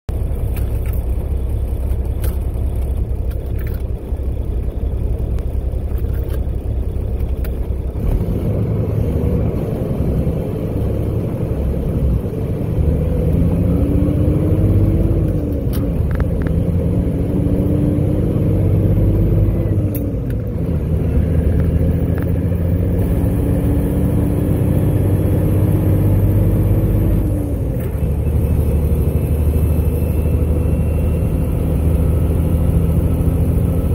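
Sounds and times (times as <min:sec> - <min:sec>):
diesel truck engine shifting gears: 0:00.1 - 0:33.9.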